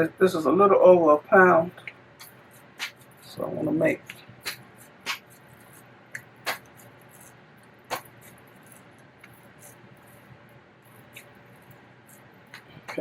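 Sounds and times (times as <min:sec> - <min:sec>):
hands shaping raw meat: 0:01.8 - 0:13.0.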